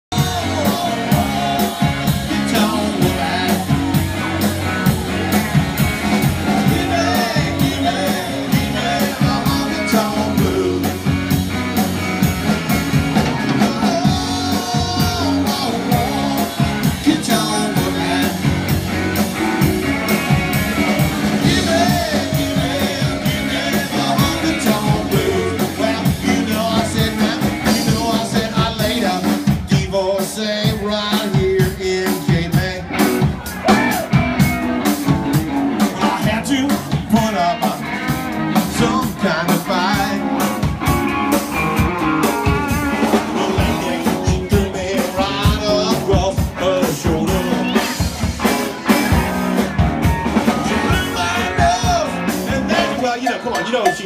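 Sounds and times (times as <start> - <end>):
person singing: 0.0 - 11.3, 13.2 - 19.8, 20.6 - 34.2, 35.8 - 54.0
guitar playing: 0.1 - 29.7, 30.8 - 53.9
drum kit beat: 0.1 - 54.0.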